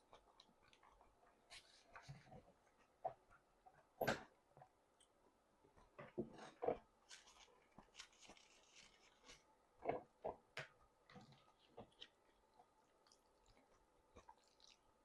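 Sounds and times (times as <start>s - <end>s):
soft chewing: 0.0s - 3.9s, 4.6s - 15.0s.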